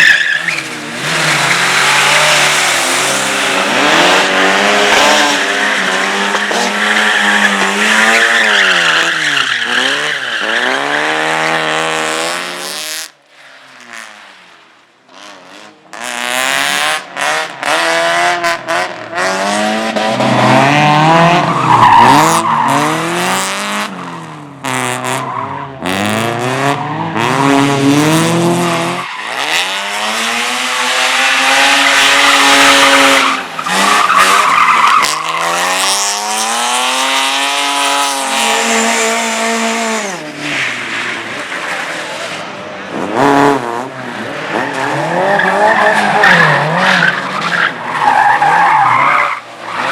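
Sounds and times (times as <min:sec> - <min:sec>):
race car engine revving: 0:00.0 - 0:13.0, 0:15.2 - 0:49.9.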